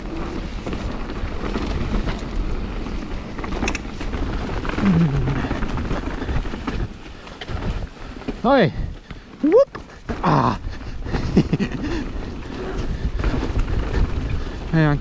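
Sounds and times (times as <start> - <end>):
bike rattling: 0.0 - 15.0
bike tyres rumbling over ground: 0.0 - 15.0
wind buffeting microphone: 0.0 - 15.0.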